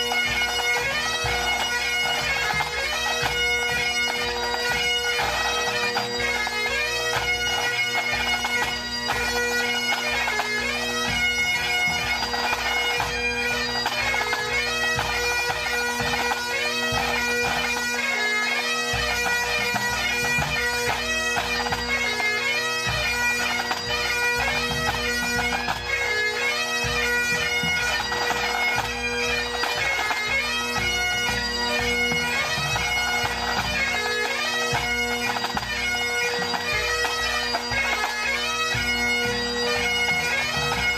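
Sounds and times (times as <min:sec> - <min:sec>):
bagpipes playing a tune: 0:00.0 - 0:40.9.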